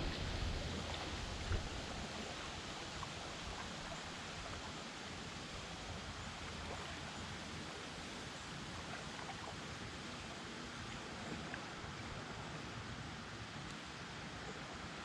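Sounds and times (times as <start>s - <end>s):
rushing water and wind: 0.0s - 15.0s.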